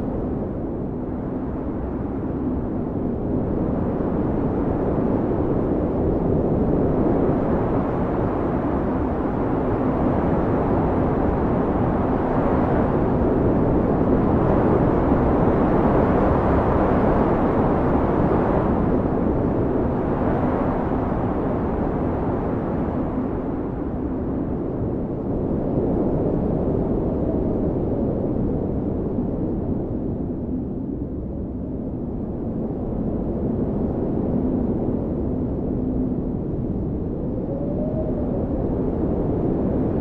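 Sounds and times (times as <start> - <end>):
blizzard wind blowing hard: 0.0 - 40.0.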